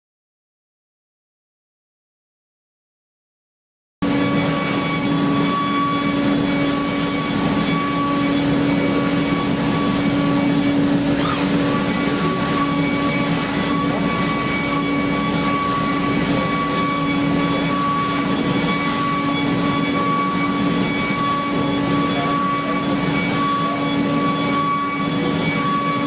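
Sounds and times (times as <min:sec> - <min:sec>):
high whine: 0:04.0 - 0:26.0
machinery hum: 0:04.0 - 0:26.0.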